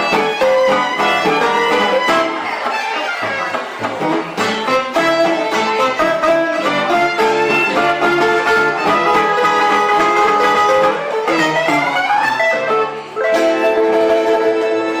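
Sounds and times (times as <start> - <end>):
held-note melody: 0.0 - 2.6, 4.0 - 15.0
live band playing: 0.0 - 15.0
plucked strings: 0.0 - 15.0.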